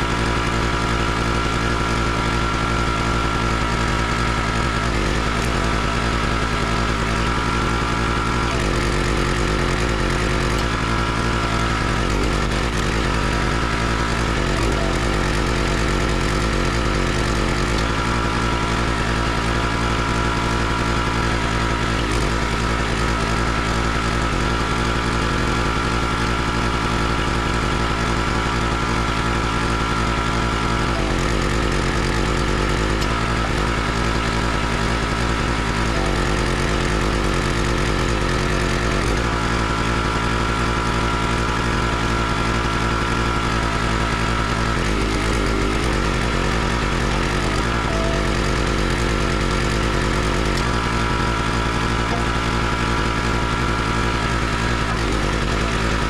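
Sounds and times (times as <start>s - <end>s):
log splitter engine running: 0.0s - 56.0s.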